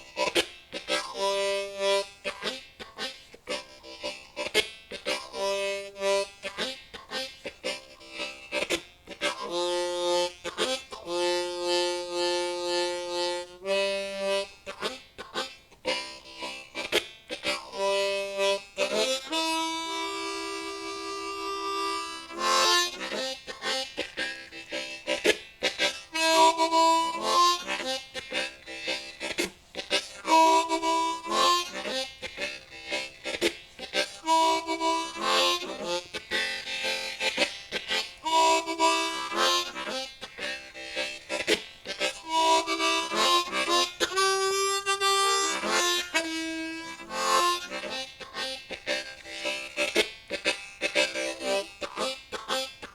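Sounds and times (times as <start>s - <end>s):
blues harmonica playing: 0.0s - 52.9s.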